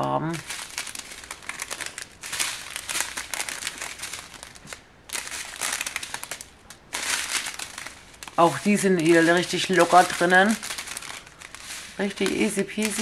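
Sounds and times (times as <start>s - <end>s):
plastic sleeve crinkling: 0.0s - 13.0s.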